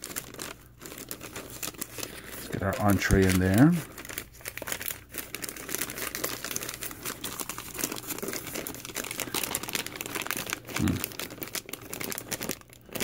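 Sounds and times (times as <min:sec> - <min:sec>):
plastic bag crinkling and rustling: 0:00.0 - 0:13.0.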